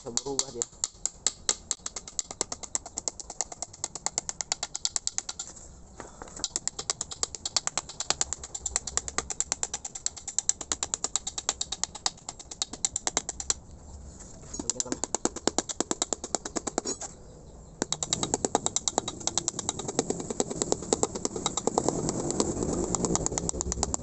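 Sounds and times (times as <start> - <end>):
rapid light tapping on gasket material: 0.0 - 5.5, 6.4 - 13.6, 14.6 - 16.9, 17.8 - 24.0.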